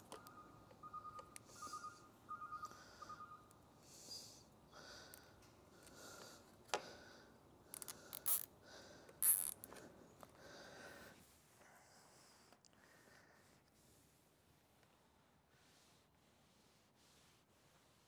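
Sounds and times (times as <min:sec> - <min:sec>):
soft breaths through nose: 0:01.4 - 0:18.0.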